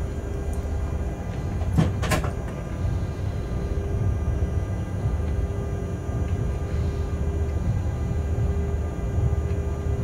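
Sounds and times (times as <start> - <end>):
train rumble and hum: 0.0 - 10.0.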